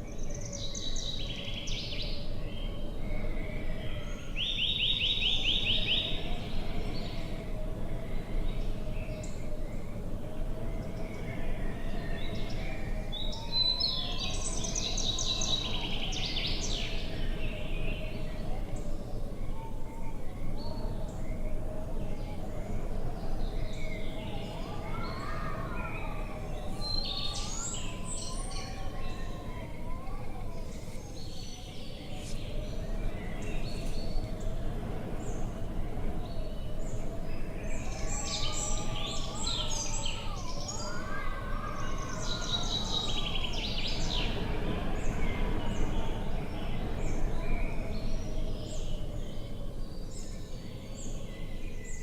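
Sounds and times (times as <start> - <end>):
wind rumble: 0.0 - 52.0.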